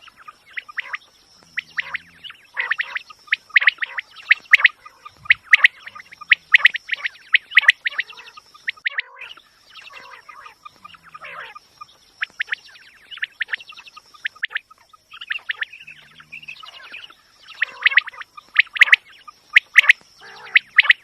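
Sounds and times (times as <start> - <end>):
quail chirping: 0.0 - 21.0.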